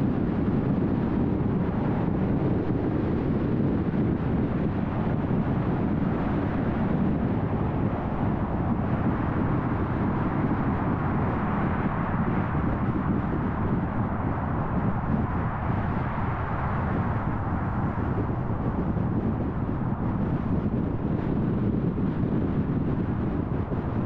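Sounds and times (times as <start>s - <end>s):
wind noise: 0.0s - 24.0s.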